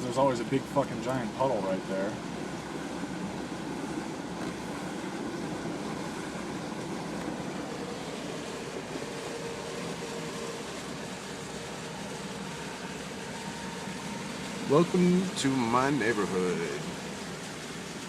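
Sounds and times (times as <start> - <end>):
water splashing against vehicle: 0.0 - 18.0.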